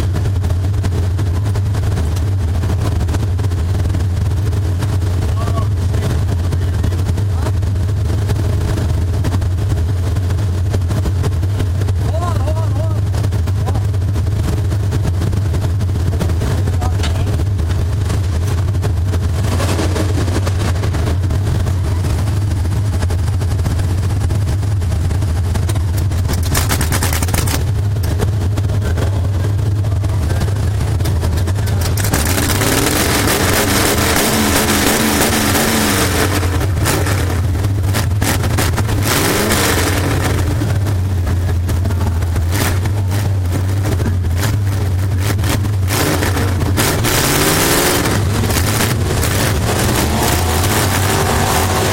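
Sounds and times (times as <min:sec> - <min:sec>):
race car engine drone: 0:00.0 - 0:51.9
rushing noise: 0:00.0 - 0:51.9.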